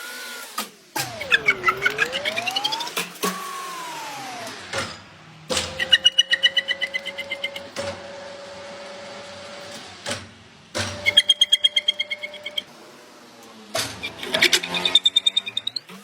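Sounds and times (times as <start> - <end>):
machine motor whine: 0.0 - 16.0.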